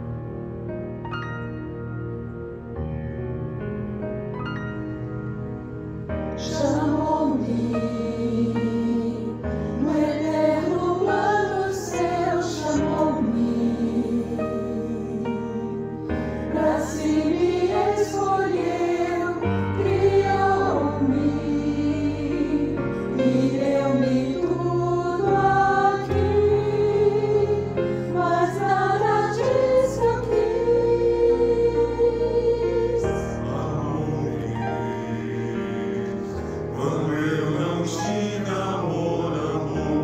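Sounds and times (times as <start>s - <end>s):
women's choir singing: 6.3s - 40.0s.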